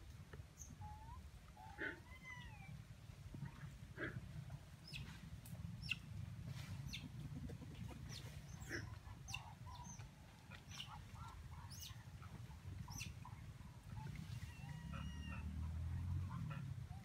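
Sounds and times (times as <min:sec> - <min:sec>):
birds chirping and clucking: 0:00.6 - 0:17.0.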